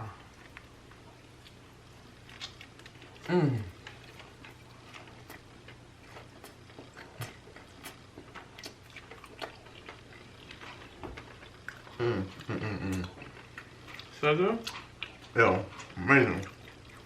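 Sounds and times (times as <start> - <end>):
people chewing wetly: 0.0 - 17.0.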